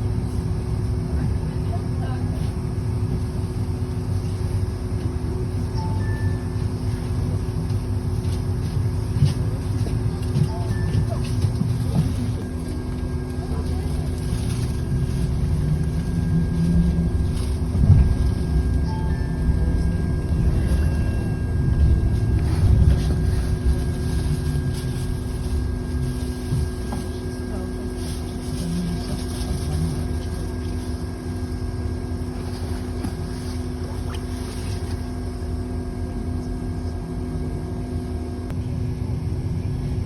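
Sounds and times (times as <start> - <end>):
bus engine and road rumble: 0.0 - 40.0
faint constant whine: 0.0 - 40.0
drivetrain hum: 1.1 - 40.0.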